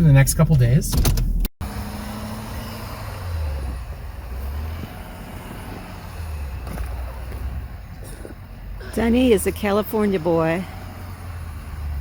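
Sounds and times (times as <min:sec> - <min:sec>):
vehicle engine with road noise: 0:00.0 - 0:12.0.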